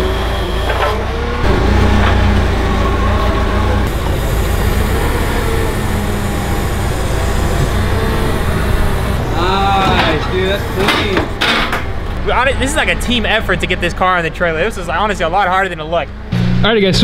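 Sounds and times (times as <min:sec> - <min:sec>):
forklift engine running: 0:00.0 - 0:16.5.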